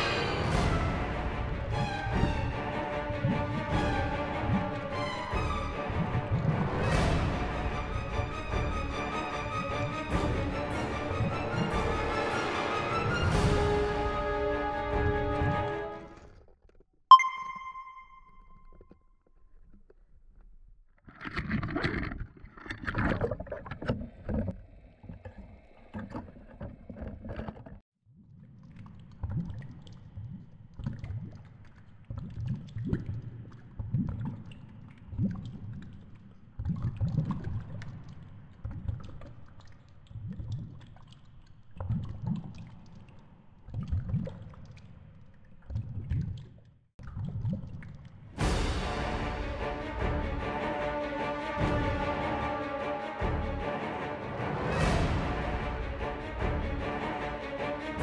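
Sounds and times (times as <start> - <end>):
water sloshing and splashing: 0.0 - 16.9, 18.7 - 58.0.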